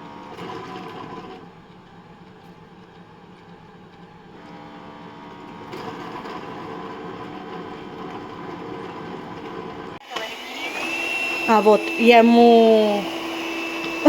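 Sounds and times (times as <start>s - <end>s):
motor hum: 0.0s - 14.0s.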